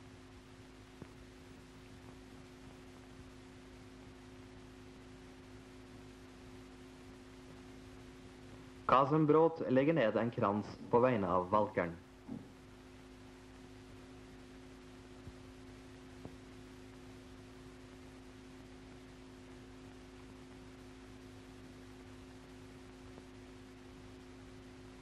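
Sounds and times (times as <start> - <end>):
faint hiss: 0.0 - 25.0
low hum of held tones: 0.0 - 25.0.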